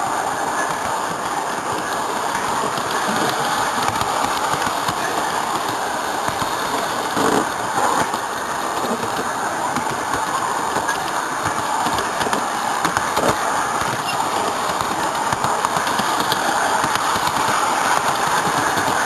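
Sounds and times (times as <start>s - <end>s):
model train rolling and motor: 0.0s - 19.0s
wheels clicking on rails: 0.0s - 19.0s.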